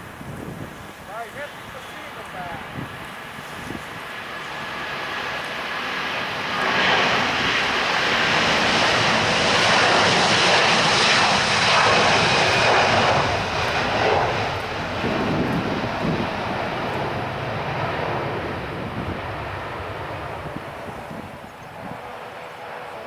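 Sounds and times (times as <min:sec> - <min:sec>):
airliner engines passing: 0:00.0 - 0:23.0.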